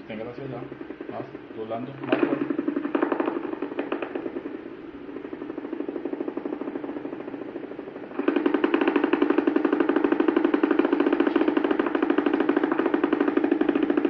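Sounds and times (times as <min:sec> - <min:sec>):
rapid evenly spaced pops: 0:00.0 - 0:14.0.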